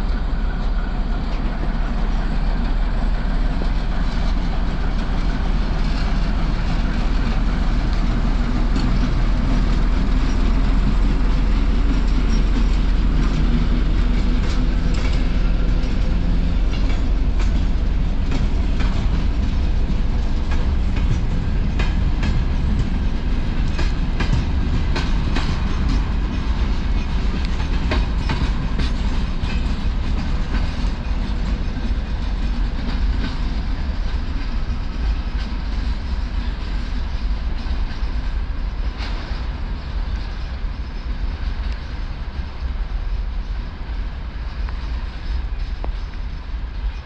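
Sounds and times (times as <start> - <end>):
train rumble: 0.0 - 47.0
wheels clicking over rail joints: 0.0 - 47.0.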